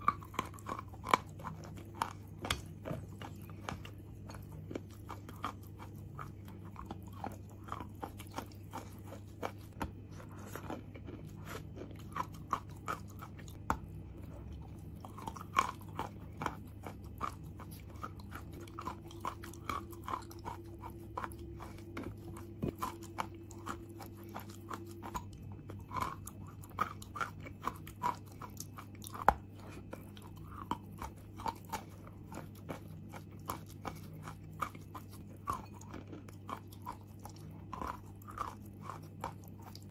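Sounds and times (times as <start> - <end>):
chalk crunching while chewed: 0.0 - 39.9
low hum: 0.0 - 39.9.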